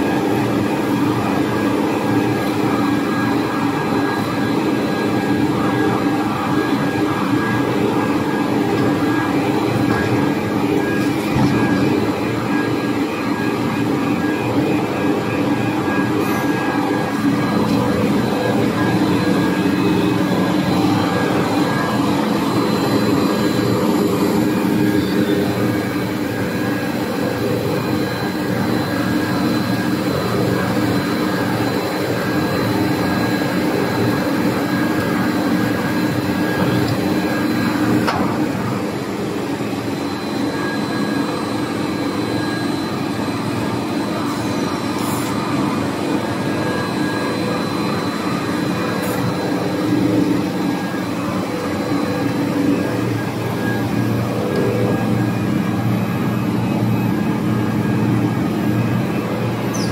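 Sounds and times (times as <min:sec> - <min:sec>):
industrial hum of motors: 0:00.0 - 0:59.9
constant whining tones: 0:00.2 - 0:59.9.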